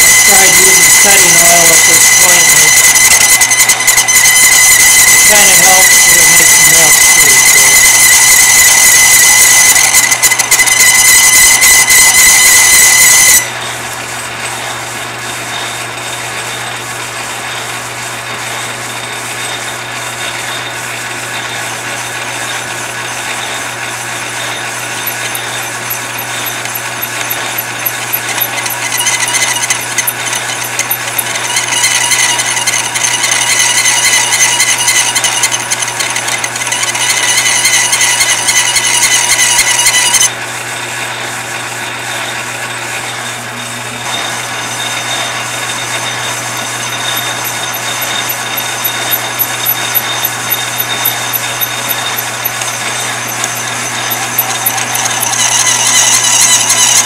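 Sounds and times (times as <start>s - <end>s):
lathe tool cutting with squeal: 0.0s - 57.0s
metal lathe running: 0.0s - 57.0s.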